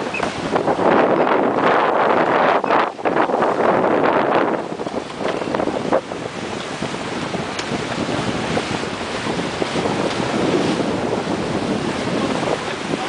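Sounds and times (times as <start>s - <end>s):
water rushing along hulls: 0.0s - 13.0s
wind noise on microphone: 0.0s - 13.0s.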